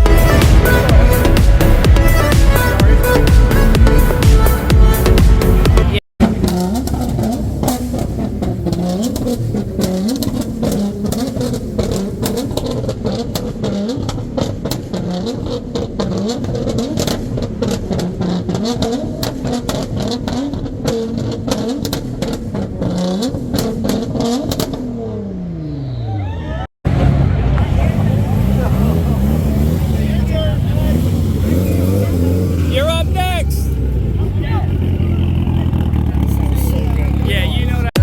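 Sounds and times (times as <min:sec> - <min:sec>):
exhaust pops and crackles: 0:00.0 - 0:25.2, 0:26.8 - 0:38.0
car engine revving: 0:00.0 - 0:38.0.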